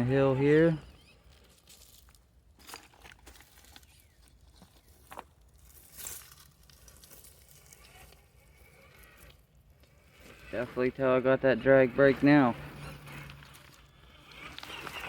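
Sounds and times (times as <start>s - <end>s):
dirt and small rocks crunching: 0.0s - 15.0s.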